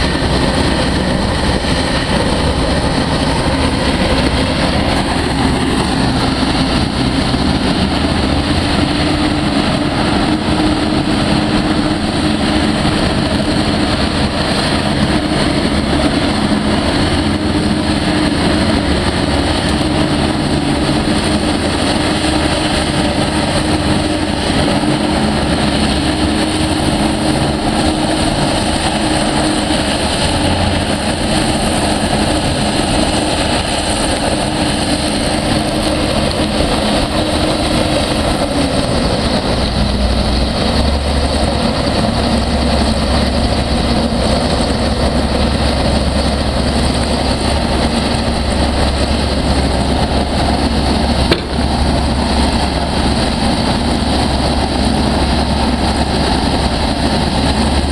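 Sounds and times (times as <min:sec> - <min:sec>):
hovercraft engines droning: 0:00.0 - 0:57.9.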